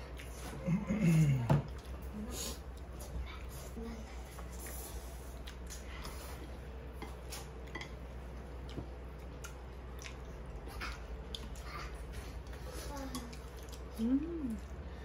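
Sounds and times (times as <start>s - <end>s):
soft eating sounds: 0.0s - 15.0s.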